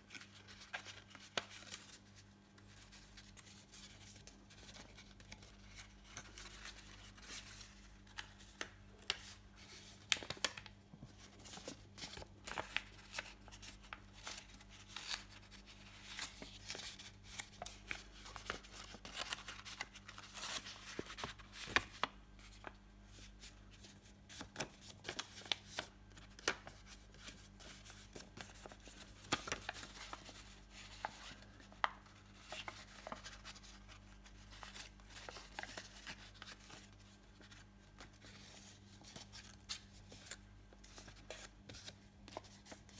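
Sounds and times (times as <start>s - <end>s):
paper being folded and creased: 0.1s - 2.1s, 2.7s - 42.9s.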